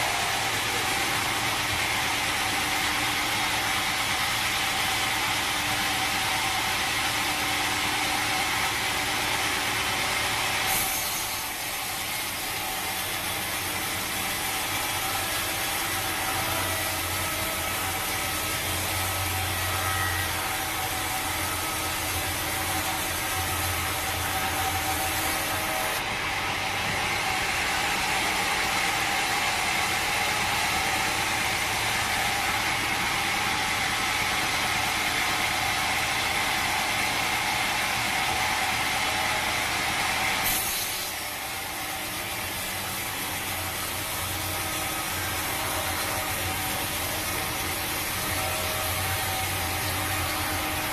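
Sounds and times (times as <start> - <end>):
sawmill saw cutting log: 0.0 - 50.9.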